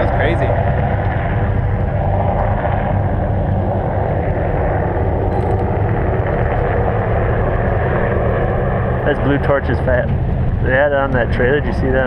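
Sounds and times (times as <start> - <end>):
off-road buggy engines running: 0.0 - 12.0.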